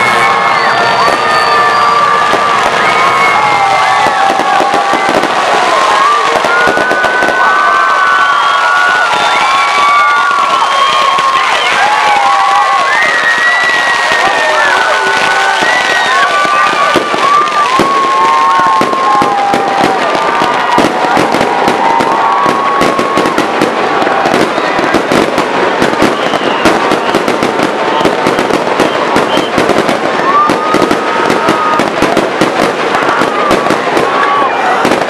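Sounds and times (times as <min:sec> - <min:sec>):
crowd applauding: 0:00.0 - 0:35.0
whoops and shouted cheers: 0:00.0 - 0:35.0.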